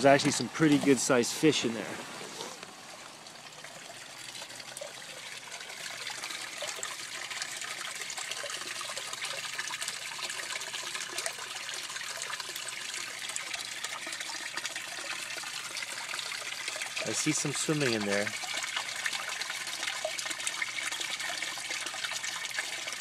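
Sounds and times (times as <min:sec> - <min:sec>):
water trickling and splashing: 0:00.0 - 0:23.0.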